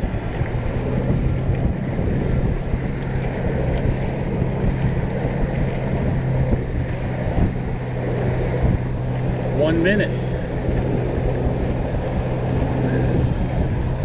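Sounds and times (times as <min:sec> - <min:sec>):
outboard motor drone: 0:00.0 - 0:14.0
wind noise on microphone: 0:00.0 - 0:14.0.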